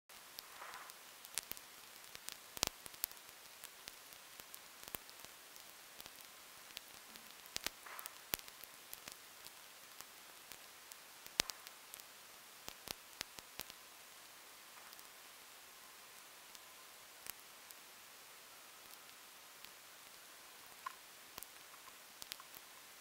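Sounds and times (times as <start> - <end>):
faint steady hiss: 0.0 - 23.0
raindrops ticking on hard surface: 0.1 - 23.0.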